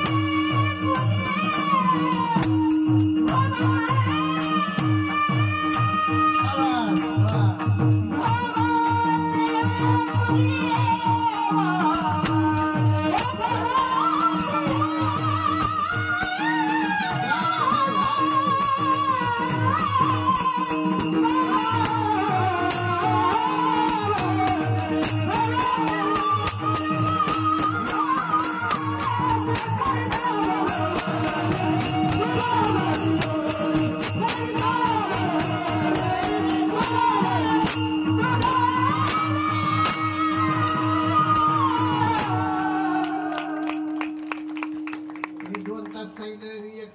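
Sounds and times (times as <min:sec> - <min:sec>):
drum beat: 0:00.0 - 0:42.6
man singing: 0:00.0 - 0:43.6
jingling percussion: 0:00.0 - 0:46.8.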